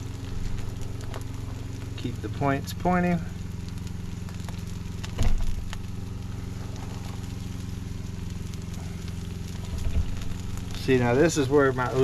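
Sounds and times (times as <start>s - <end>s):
charcoal crackling: 0.0s - 12.0s
meat sizzling: 0.0s - 12.0s
steady low hum: 0.0s - 12.0s.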